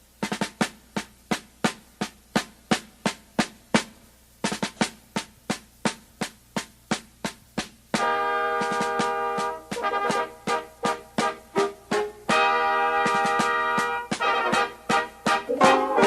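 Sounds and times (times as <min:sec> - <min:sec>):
drum playing march beat: 0:00.0 - 0:16.0.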